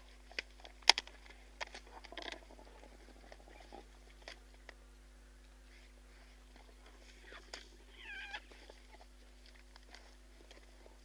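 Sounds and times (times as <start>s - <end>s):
hyena crunching and gnawing bones: 0.0s - 11.0s.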